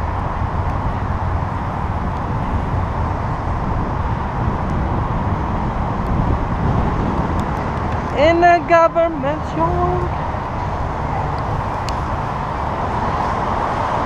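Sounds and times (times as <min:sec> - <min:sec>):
road noise: 0:00.0 - 0:14.0
wind on microphone: 0:00.0 - 0:14.0.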